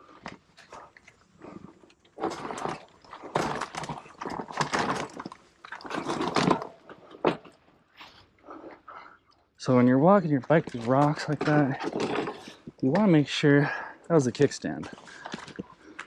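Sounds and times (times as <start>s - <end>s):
bike tyres and frame rattling: 0.0s - 8.7s, 9.6s - 16.0s.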